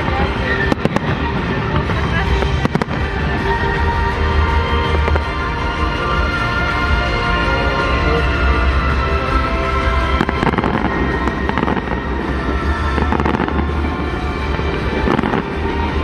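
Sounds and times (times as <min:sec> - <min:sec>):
fireworks bursting and crackling: 0:00.0 - 0:16.0
music: 0:00.0 - 0:16.0.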